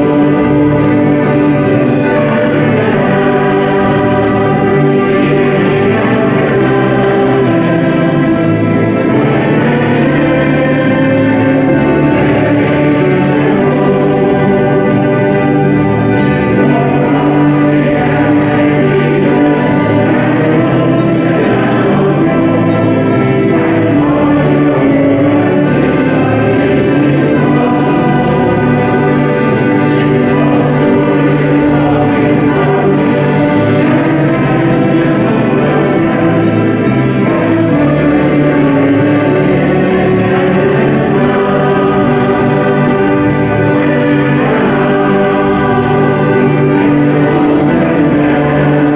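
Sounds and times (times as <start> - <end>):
accordion: 0.0 - 48.9
banjo: 0.0 - 48.9
fiddles: 0.0 - 48.9
mixed choir singing: 0.0 - 48.9.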